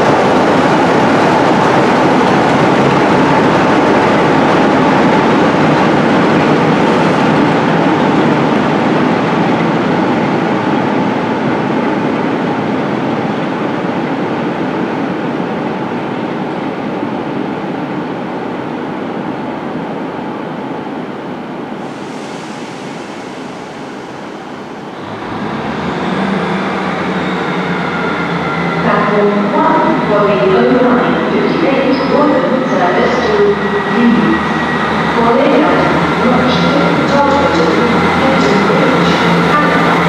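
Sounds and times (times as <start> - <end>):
diesel train rumbling: 0.0 - 16.5, 21.6 - 40.0.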